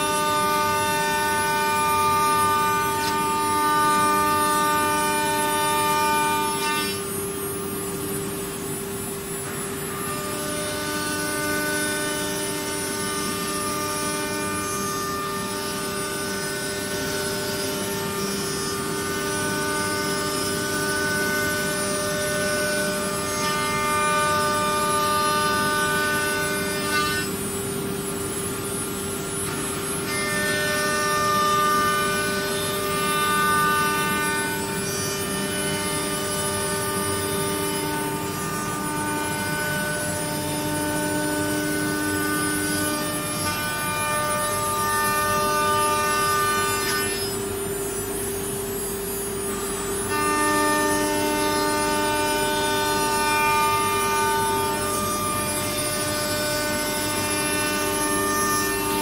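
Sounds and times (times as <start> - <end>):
router spindle motor whine: 0.0 - 59.0.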